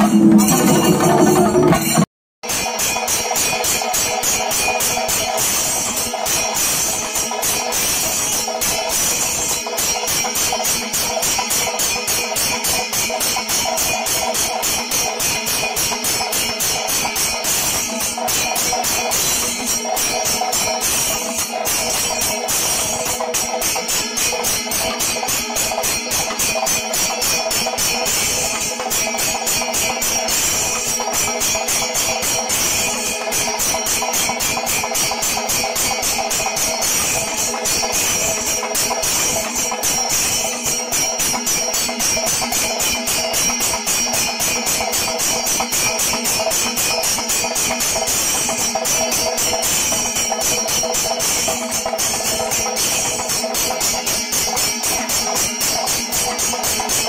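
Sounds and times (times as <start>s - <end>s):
drums beaten with sticks: 0.0s - 57.0s
ringing cymbals: 0.0s - 57.0s.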